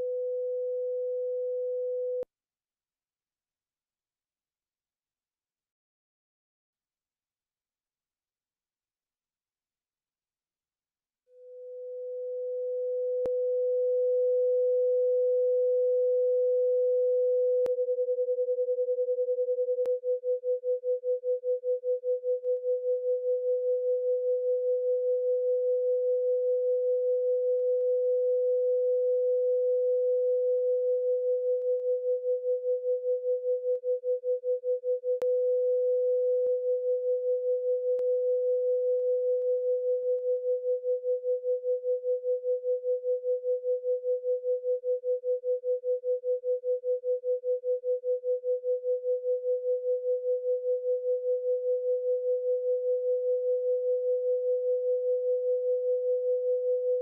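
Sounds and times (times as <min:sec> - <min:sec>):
pulsing sine tone: 0:00.0 - 0:02.3, 0:11.3 - 0:57.0.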